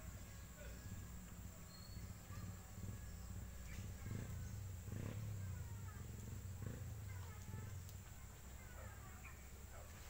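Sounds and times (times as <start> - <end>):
faint bird chirps: 0.0 - 10.0
low uneven rumble: 0.0 - 10.0.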